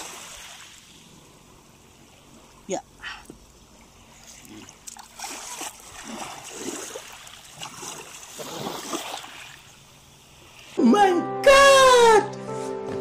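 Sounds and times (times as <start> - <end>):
water splashing and sloshing: 0.0 - 10.8.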